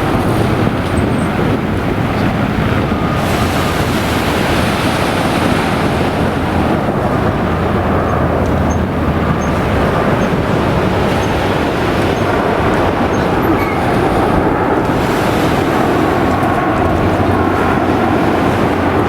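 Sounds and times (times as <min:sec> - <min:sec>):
airliner roar: 0:00.0 - 0:19.0
wind buffeting microphone: 0:00.0 - 0:19.0.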